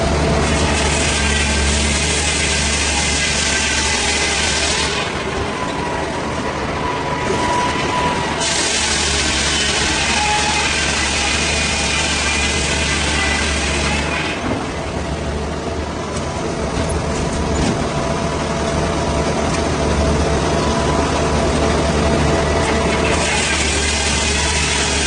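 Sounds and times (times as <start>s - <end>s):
heavy engine humming: 0.0s - 25.0s.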